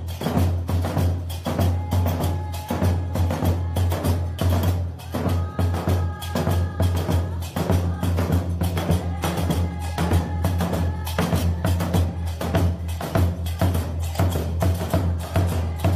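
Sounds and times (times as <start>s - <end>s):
background music with drums: 0.0s - 15.9s.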